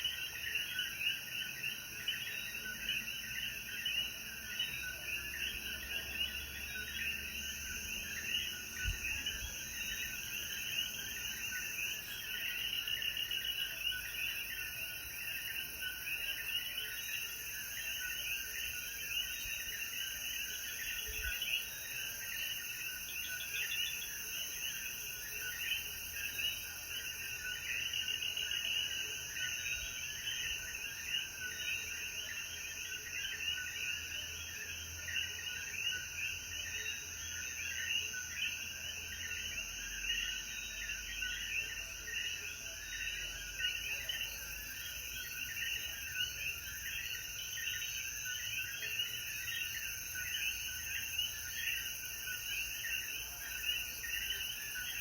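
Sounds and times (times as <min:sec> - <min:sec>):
frogs calling in chorus: 0:00.0 - 0:55.0.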